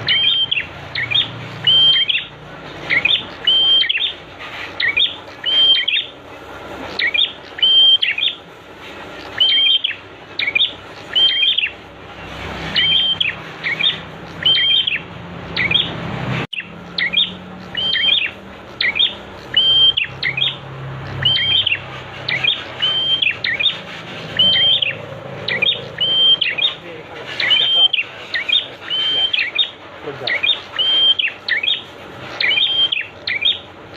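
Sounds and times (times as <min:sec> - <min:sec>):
bird chirping phrases: 0:00.0 - 0:06.2, 0:06.8 - 0:33.9.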